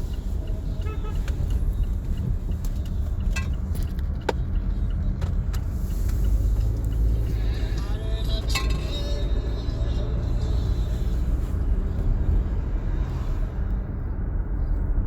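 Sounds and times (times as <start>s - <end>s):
road and wind noise in car: 0.0s - 15.0s.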